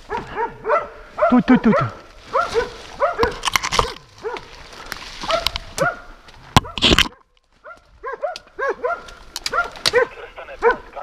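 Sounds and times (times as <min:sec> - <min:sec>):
brush crackling: 0:00.0 - 0:11.0
dogs barking and yelping: 0:00.0 - 0:11.0.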